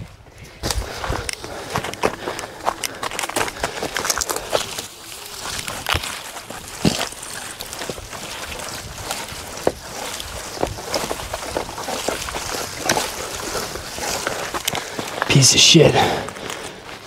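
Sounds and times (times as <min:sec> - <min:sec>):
branches rustling and brushing: 0:00.0 - 0:17.0
knocks and steps on rock: 0:00.6 - 0:15.4.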